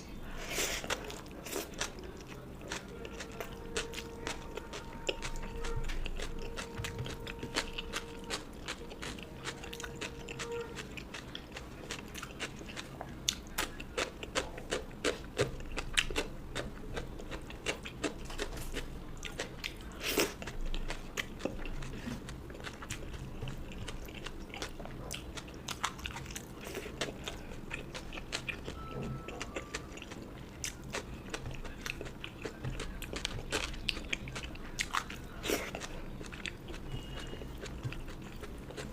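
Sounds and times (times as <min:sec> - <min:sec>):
faint steady hum: 0:00.0 - 0:38.9
person chewing and crunching food: 0:00.3 - 0:38.9.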